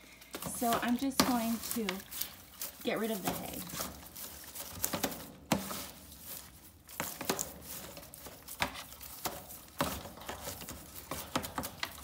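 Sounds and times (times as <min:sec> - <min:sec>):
hay rustling: 0:00.0 - 0:12.0.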